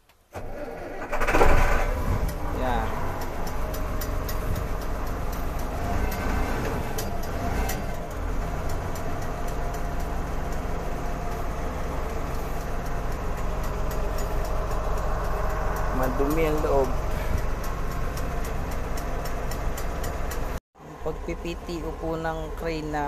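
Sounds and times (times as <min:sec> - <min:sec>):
diesel engine idling: 0:00.4 - 0:23.0.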